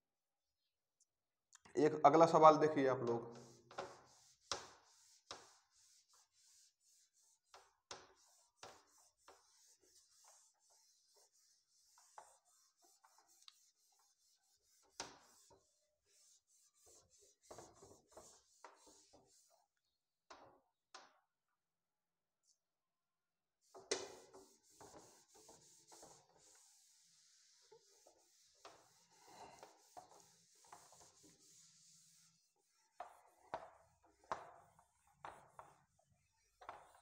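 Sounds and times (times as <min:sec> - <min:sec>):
duster rubbing on whiteboard: 0:03.3 - 0:19.8, 0:23.6 - 0:37.0.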